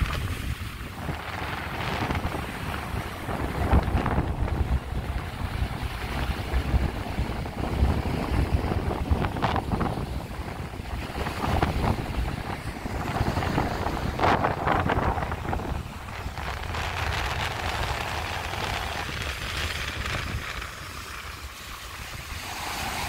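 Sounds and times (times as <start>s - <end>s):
waves breaking against rocks: 0.0s - 23.0s
wind buffeting microphone: 0.0s - 23.0s.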